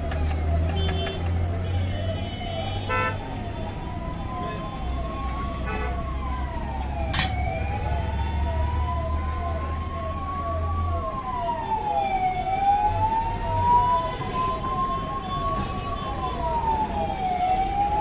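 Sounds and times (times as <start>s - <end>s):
electronic siren wailing: 1.8s - 18.0s.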